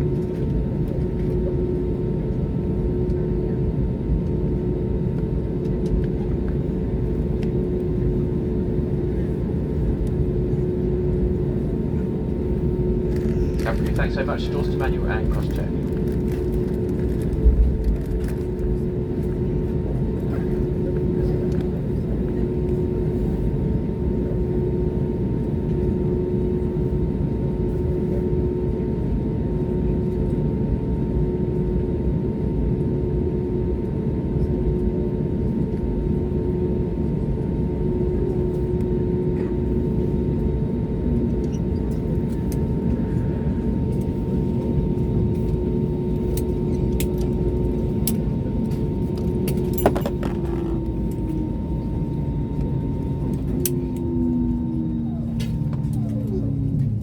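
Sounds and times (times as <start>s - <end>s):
aircraft cabin air supply hum: 0.0s - 57.0s.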